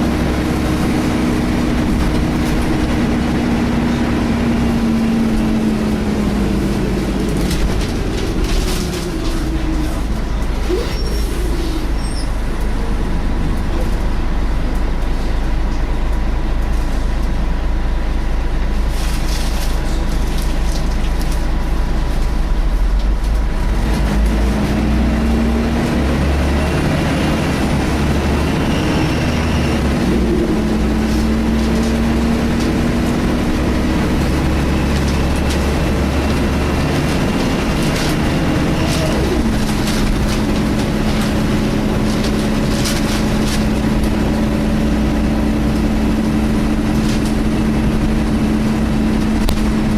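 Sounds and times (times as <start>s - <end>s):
bus engine and road rumble: 0.0s - 49.9s
droning engine tones: 0.0s - 49.9s.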